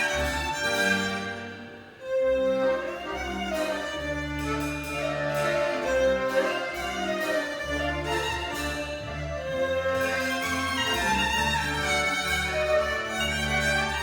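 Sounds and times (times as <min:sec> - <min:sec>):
fiddle lead: 0:00.0 - 0:14.0
walking bass line: 0:00.0 - 0:14.0.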